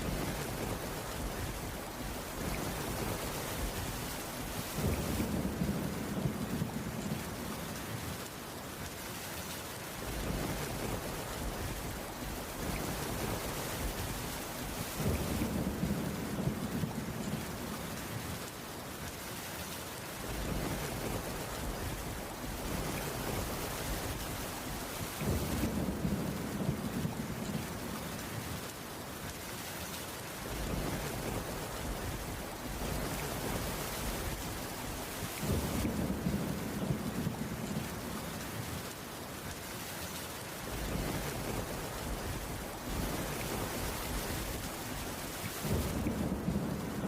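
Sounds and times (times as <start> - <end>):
low thunder rumbling: 0.0 - 8.2, 10.0 - 18.4, 20.2 - 28.7, 30.4 - 38.9, 40.7 - 47.0
heavy rain: 0.0 - 47.0.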